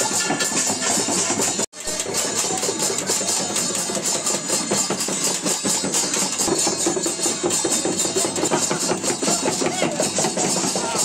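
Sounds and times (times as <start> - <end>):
frame drums beaten fast: 0.0 - 11.0.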